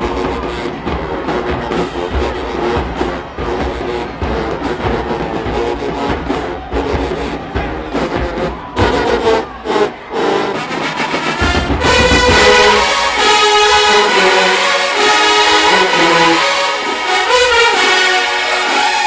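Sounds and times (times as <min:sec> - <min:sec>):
drum hits: 0:00.0 - 0:16.0
brass stabs and chords: 0:00.0 - 0:19.0
marching band playing: 0:00.0 - 0:19.0.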